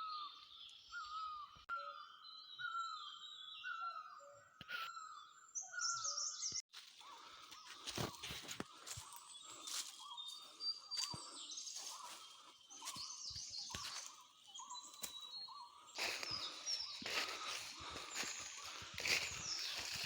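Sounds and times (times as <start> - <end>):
birds singing and chirping: 0.0 - 20.0.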